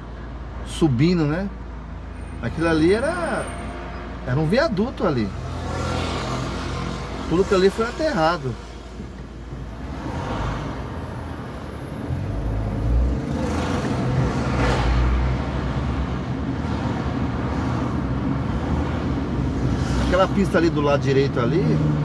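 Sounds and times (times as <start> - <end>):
passing traffic surges: 0.0 - 22.0.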